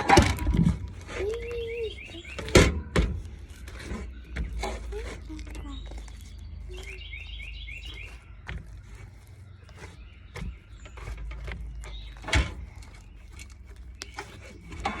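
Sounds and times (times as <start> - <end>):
slime squishing by hand: 0.0 - 15.0.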